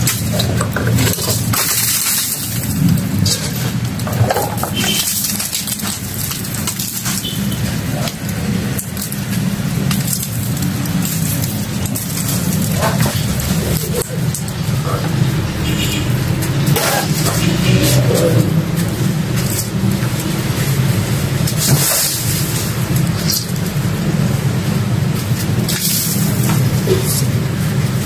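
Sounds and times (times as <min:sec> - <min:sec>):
wooden boards cracking and splintering: 0:00.0 - 0:28.0.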